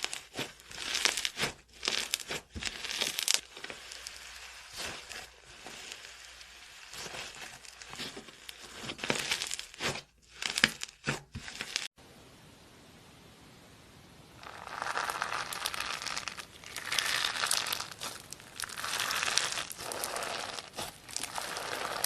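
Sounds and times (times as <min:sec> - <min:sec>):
sticky slime crackling: 0:00.0 - 0:11.9, 0:14.4 - 0:22.0.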